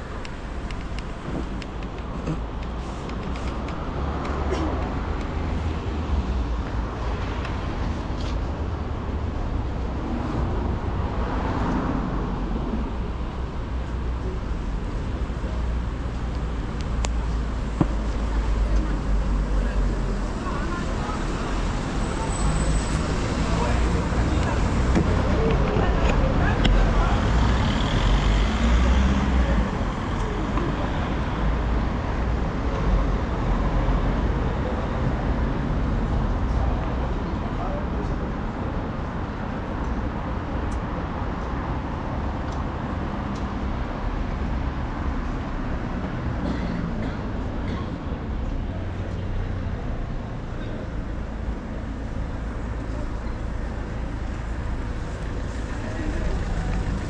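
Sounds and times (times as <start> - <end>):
deep traffic rumble: 0.0 - 57.0
hum of cars and scooters: 0.0 - 57.0.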